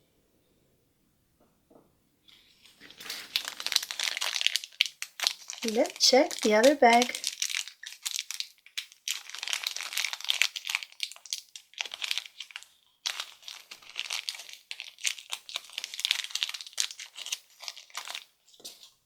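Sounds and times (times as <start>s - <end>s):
plastic wrapper crinkling: 2.3s - 19.0s.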